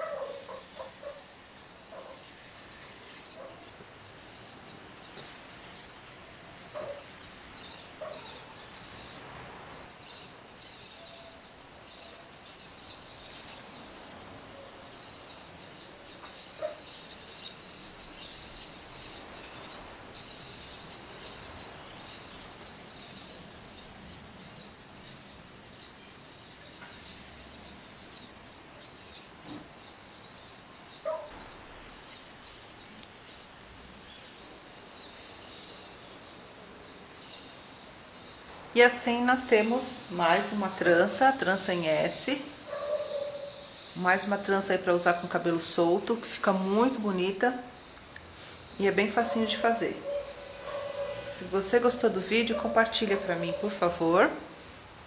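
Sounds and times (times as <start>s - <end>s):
bird chirping: 0.0s - 54.6s.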